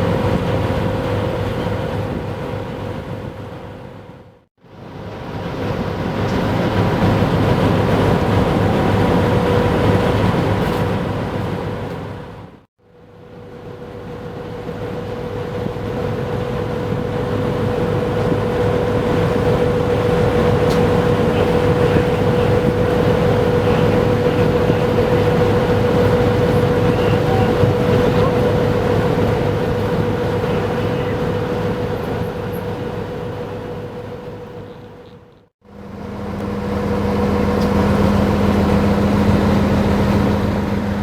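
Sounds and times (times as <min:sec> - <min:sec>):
train passing: 0:00.0 - 0:12.6, 0:13.3 - 0:41.0.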